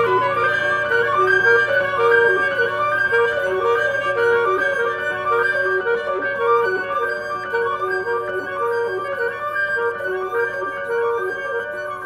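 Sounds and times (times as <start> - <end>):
flute saxophone and piano playing: 0.0 - 12.0.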